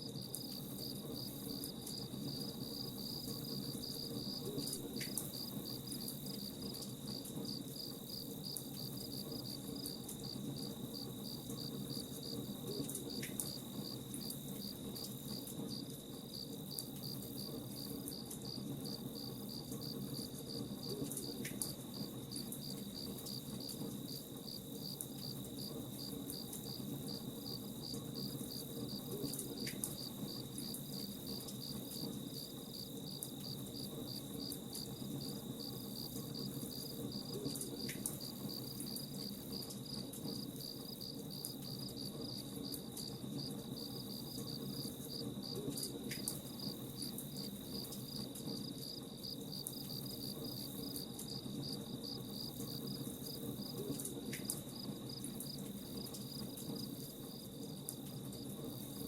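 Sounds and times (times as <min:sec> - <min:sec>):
continuous high whine: 0:00.0 - 0:59.0
crickets chirping: 0:00.1 - 0:59.0.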